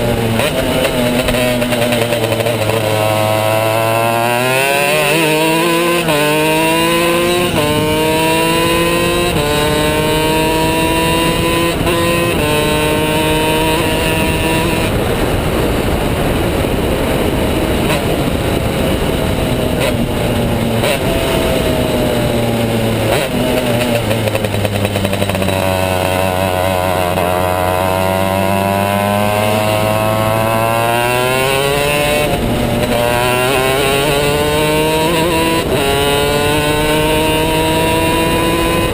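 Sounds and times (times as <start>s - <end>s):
kart engine shifting gears: 0.0s - 38.9s.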